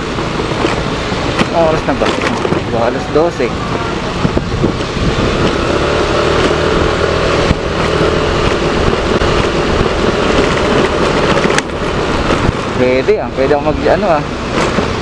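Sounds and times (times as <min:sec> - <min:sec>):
road noise rushing: 0:00.0 - 0:15.0
vehicle engine running: 0:00.0 - 0:15.0.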